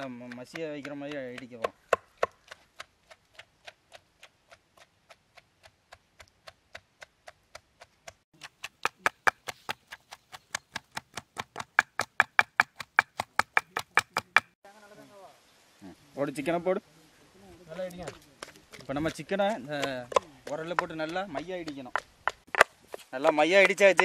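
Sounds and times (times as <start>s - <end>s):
wooden pestle pounding in stone mortar: 0.0s - 14.6s, 18.0s - 24.0s.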